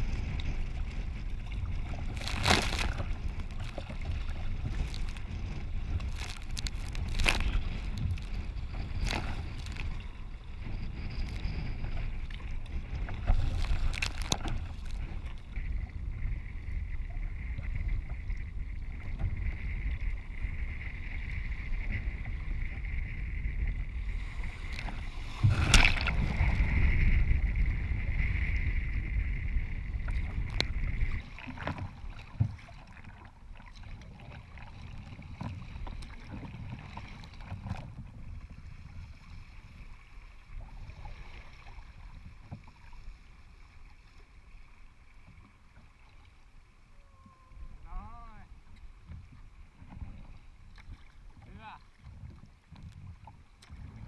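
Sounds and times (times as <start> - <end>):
water splashing against kayak: 0.0 - 54.0
wind rumbling on microphone: 0.0 - 54.0.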